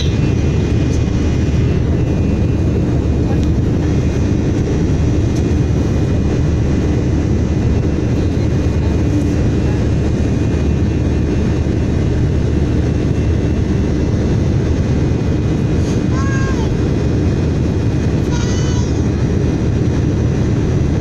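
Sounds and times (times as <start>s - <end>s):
jet engine roar in cabin: 0.0s - 21.0s.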